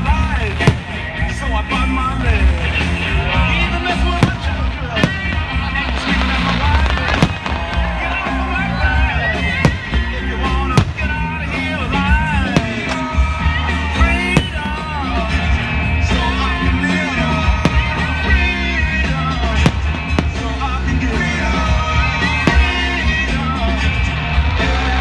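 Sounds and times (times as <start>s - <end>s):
fireworks bangs: 0.0s - 23.8s
music with singing voice and bass: 0.0s - 25.0s.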